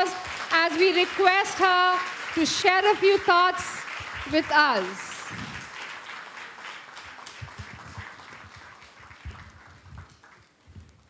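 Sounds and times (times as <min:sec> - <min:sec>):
audience clapping: 0:00.0 - 0:11.0.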